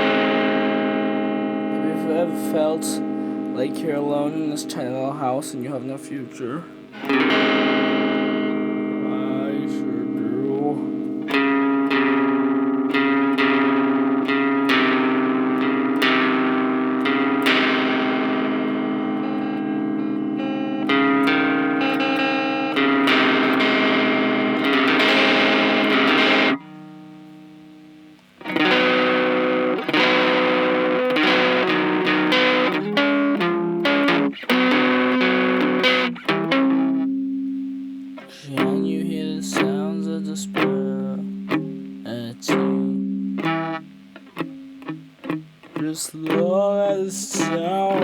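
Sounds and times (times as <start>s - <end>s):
distorted electric guitar strumming: 0.0s - 48.0s.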